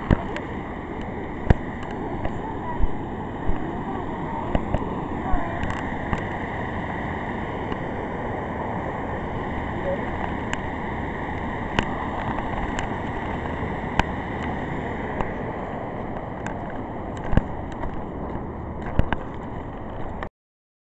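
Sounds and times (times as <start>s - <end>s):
stream rushing over rocks: 0.0s - 20.2s.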